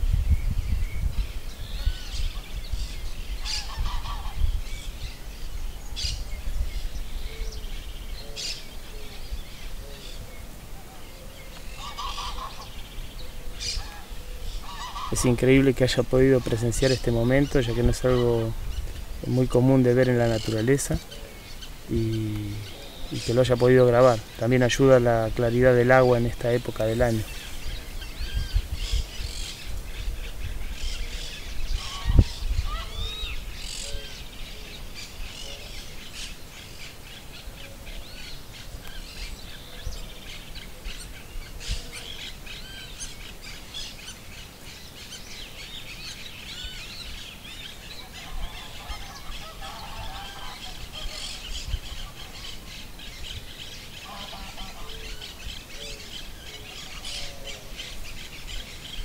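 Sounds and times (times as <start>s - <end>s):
birds chirping: 0.0s - 59.0s
rough low bird calls: 0.0s - 59.0s.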